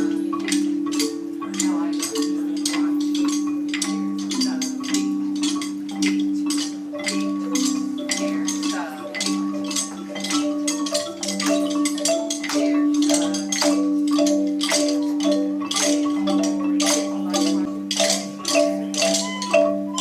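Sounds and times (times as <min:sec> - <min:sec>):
marimba-like mallet percussion music: 0:00.0 - 0:20.0.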